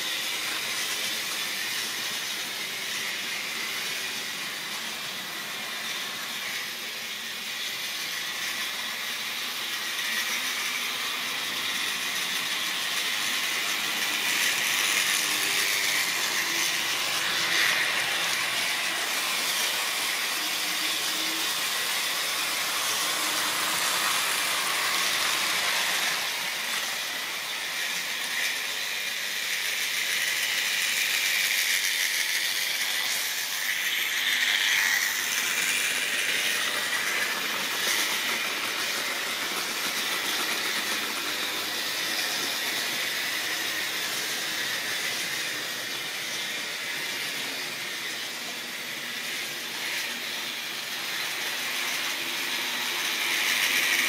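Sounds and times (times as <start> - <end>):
small electric motors whirring: 0.0 - 54.0.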